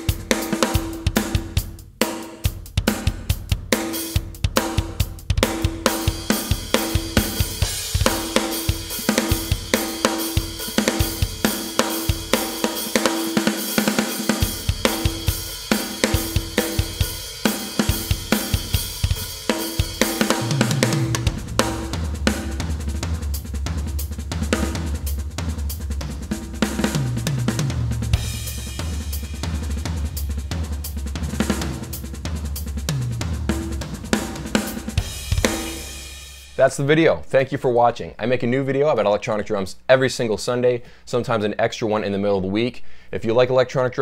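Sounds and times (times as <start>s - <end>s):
drum kit beat: 0.0s - 36.9s.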